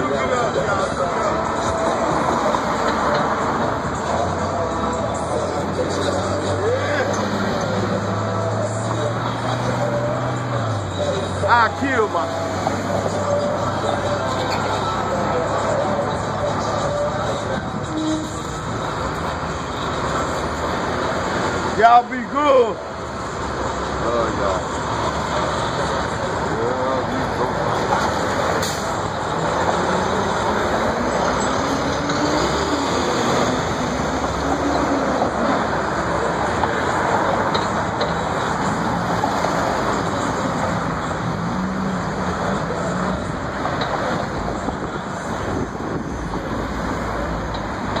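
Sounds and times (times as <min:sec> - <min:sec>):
cars driving past: 0:00.0 - 0:48.0.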